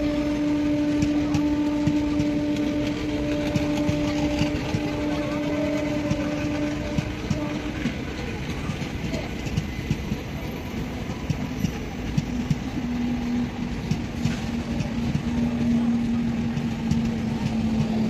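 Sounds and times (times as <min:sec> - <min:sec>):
train wheels clacking over rail joints: 0:00.0 - 0:18.0.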